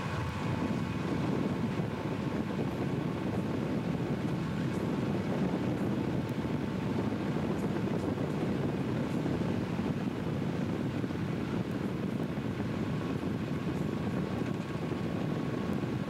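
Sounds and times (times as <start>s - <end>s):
diesel locomotive engine and running gear: 0.0s - 16.0s
vehicle road noise: 0.0s - 16.0s
wind noise: 0.0s - 16.0s.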